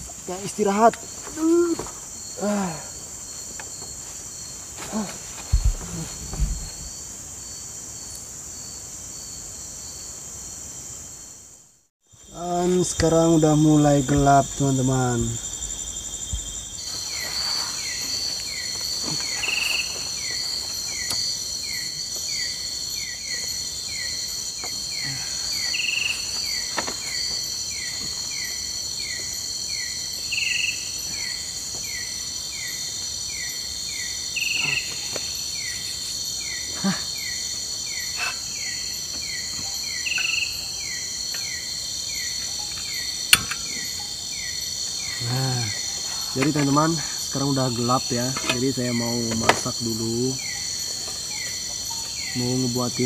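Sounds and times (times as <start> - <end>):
shrill insect drone: 0.0 - 53.0.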